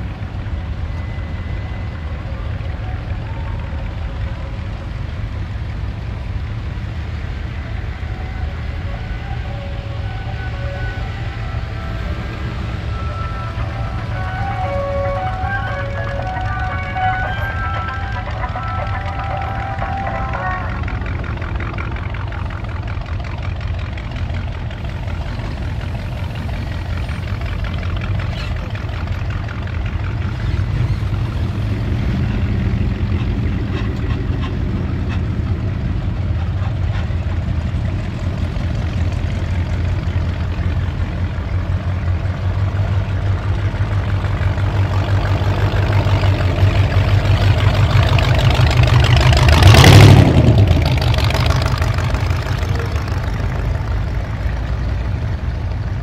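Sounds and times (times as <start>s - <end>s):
car engines driving past: 0.0s - 56.0s
hot rod passing close: 6.2s - 56.0s.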